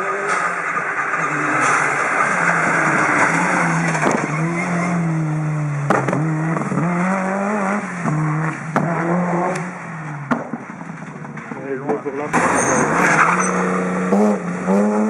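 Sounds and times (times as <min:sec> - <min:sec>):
rally car engine revving: 0:00.0 - 0:15.0
tyre and road noise: 0:00.0 - 0:15.0.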